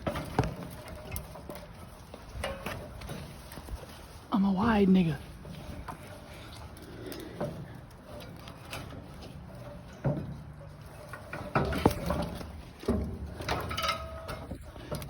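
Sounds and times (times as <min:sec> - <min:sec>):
people shuffling and climbing: 0:00.0 - 0:15.0.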